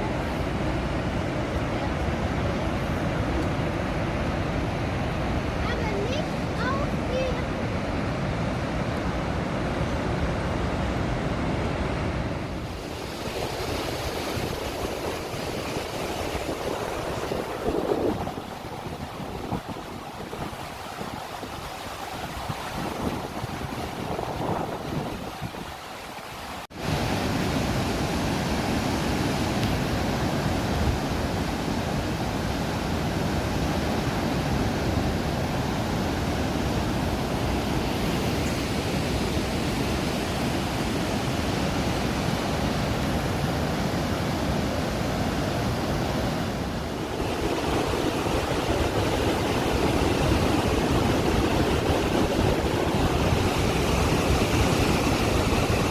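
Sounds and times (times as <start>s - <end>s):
waterfall roaring: 0.0s - 55.9s.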